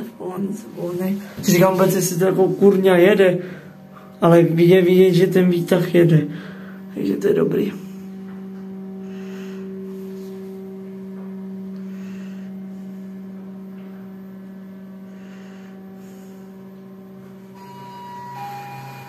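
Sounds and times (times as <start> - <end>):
hydraulic elevator humming: 0.0 - 19.0.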